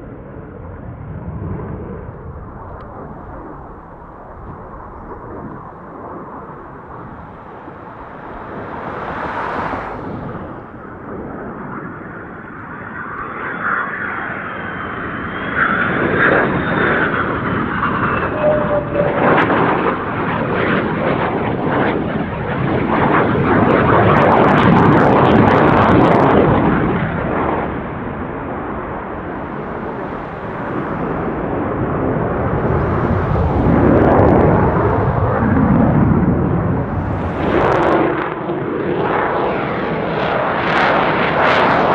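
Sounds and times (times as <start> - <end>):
jet aircraft flying past: 0.0 - 41.9.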